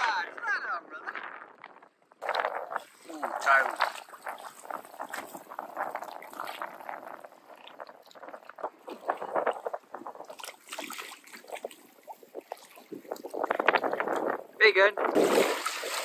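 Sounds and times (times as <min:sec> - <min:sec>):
water sloshing and splashing: 0:01.6 - 0:16.0.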